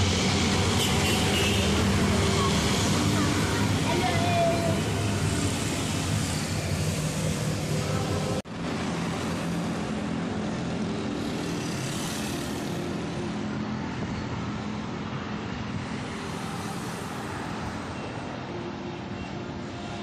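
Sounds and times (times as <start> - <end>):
street traffic hum: 0.0 - 20.0.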